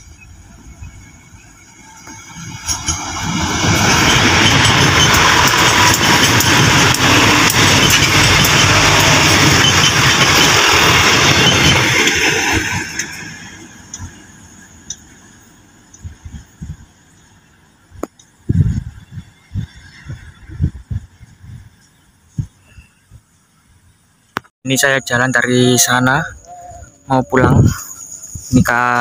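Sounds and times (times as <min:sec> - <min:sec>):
diesel train passing: 0:00.0 - 0:22.4, 0:24.8 - 0:29.0.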